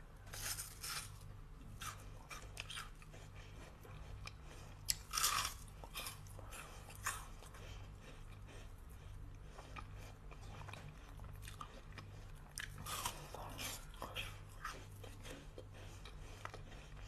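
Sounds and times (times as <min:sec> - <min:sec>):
crunching frozen fruit: 0:00.2 - 0:07.6, 0:10.4 - 0:17.0.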